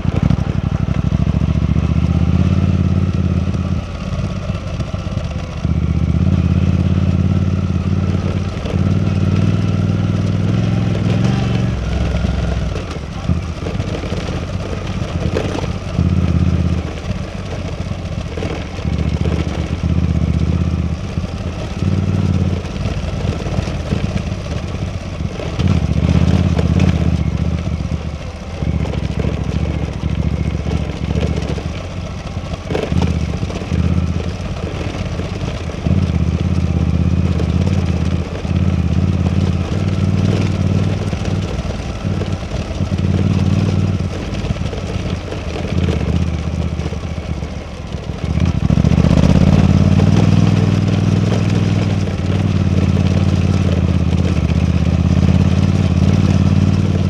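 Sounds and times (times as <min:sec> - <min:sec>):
motorcycle engine revving while riding: 0:00.0 - 0:57.0.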